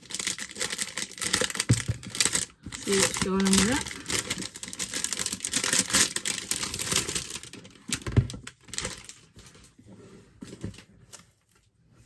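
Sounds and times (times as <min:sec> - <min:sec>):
packaging rustling: 0:00.0 - 0:11.6.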